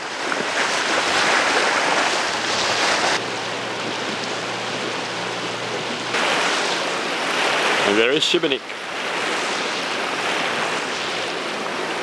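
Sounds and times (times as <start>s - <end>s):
wind on microphone: 0.0s - 8.0s, 8.7s - 12.0s
boat motor hum: 0.0s - 12.0s
water rushing along hull: 0.0s - 12.0s.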